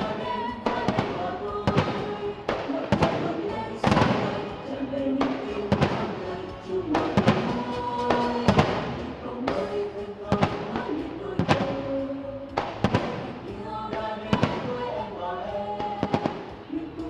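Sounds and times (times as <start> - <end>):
firework shells bursting: 0.0 - 4.6, 5.2 - 14.9
music with long held notes: 0.0 - 17.0.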